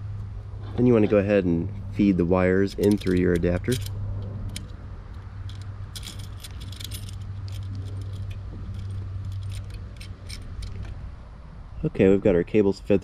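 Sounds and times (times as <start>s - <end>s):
steady low hum: 0.0s - 13.0s
wires clicking against metal: 0.2s - 11.1s.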